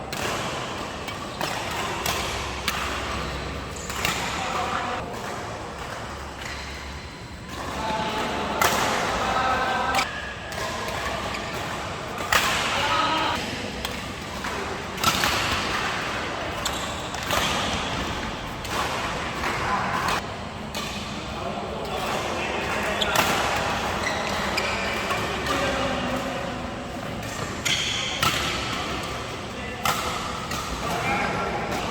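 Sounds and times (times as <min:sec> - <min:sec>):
rackets hitting shuttlecock: 0:00.0 - 0:31.9.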